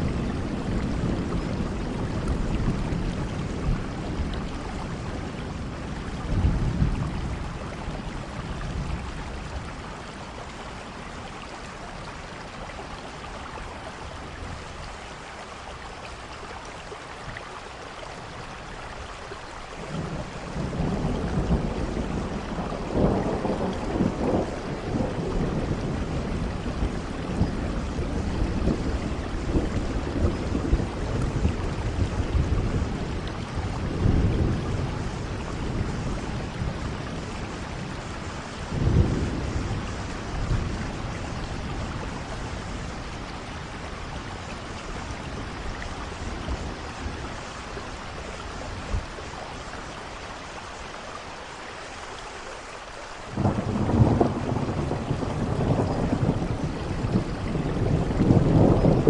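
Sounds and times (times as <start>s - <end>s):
thunder rumbling: 0.0s - 11.5s, 19.8s - 50.8s, 53.3s - 59.0s
steady rain: 0.0s - 59.0s.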